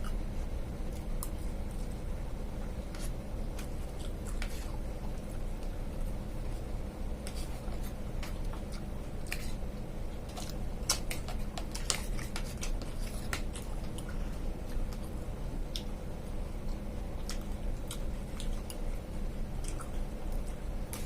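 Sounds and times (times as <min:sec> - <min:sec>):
chewing fruit: 0:02.6 - 0:16.0, 0:16.6 - 0:21.0.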